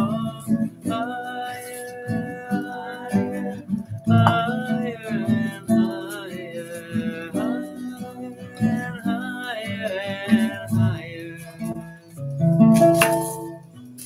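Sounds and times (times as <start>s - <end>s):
man singing: 0.0s - 12.3s
acoustic guitar strumming: 0.0s - 14.0s.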